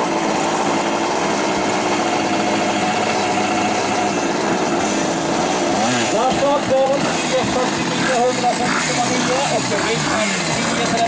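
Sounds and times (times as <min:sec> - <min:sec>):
moped engines running at low revs: 0:00.0 - 0:11.0.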